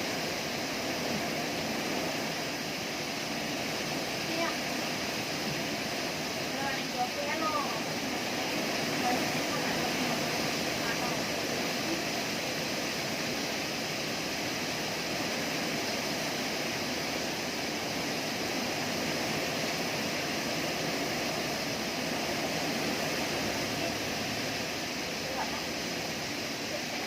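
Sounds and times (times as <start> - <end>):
heavy wind-driven rain: 0.0 - 27.0.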